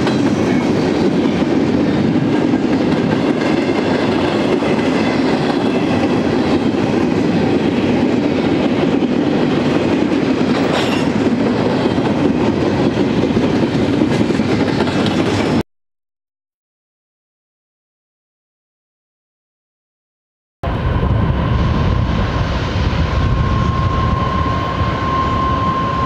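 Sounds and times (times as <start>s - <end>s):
freight train wheels rumbling: 0.0s - 15.6s, 20.6s - 26.0s.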